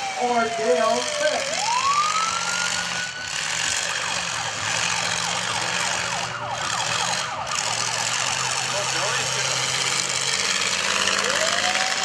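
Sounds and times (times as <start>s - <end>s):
siren wailing: 0.0s - 10.0s, 10.7s - 12.0s
car engine running: 0.0s - 12.0s.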